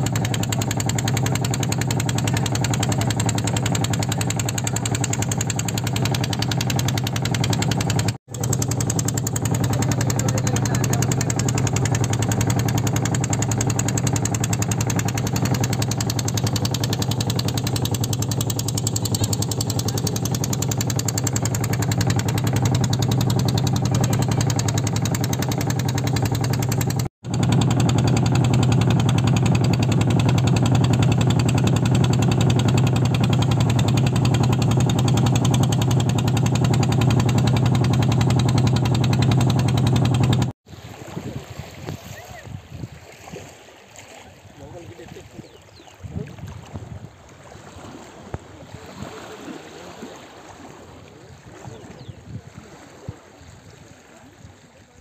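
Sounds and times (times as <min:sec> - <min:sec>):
motorboat engine humming: 0:00.0 - 0:55.0.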